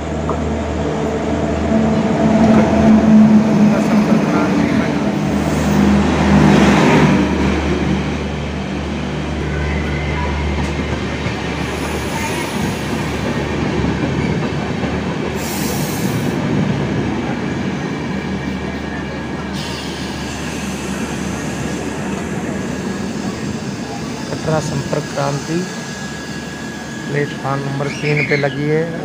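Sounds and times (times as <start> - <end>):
train rumbling slowly: 0.0 - 29.0.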